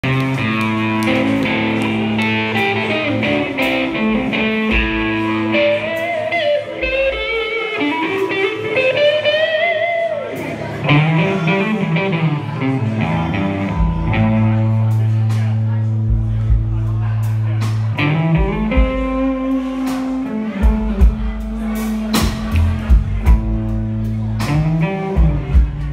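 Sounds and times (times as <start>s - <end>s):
bass notes: 0.0s - 9.7s, 10.4s - 25.9s
electric guitar lead line: 0.0s - 16.7s, 17.7s - 25.9s
drums: 0.0s - 25.9s.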